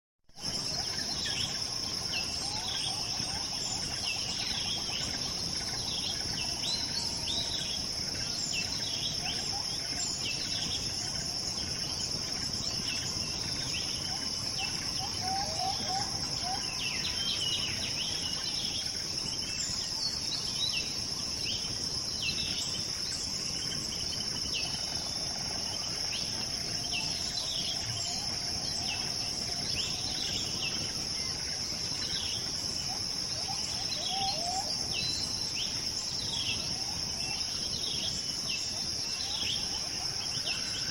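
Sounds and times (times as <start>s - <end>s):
crickets droning: 0.4s - 40.9s.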